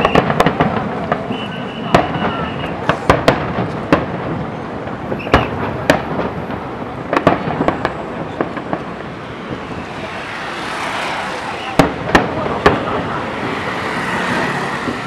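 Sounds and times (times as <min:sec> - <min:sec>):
continuous rushing noise: 0:00.0 - 0:15.0
fireworks bangs: 0:00.0 - 0:15.0.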